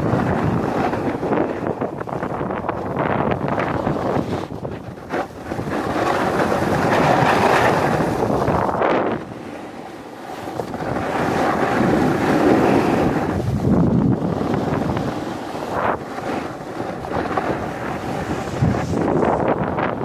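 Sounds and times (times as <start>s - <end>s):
snowboard scraping over snow: 0.0s - 20.0s
wind buffeting microphone: 0.0s - 20.0s.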